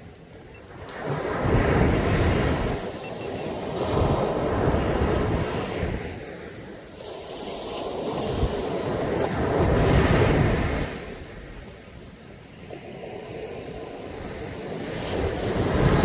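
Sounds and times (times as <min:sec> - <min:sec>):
surf washing on a beach: 0:00.0 - 0:16.0
wind buffeting microphone: 0:00.0 - 0:16.0.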